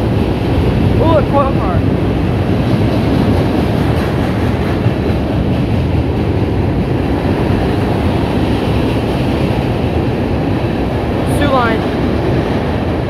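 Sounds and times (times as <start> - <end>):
train wheels rumbling on bridge: 0.0 - 13.0.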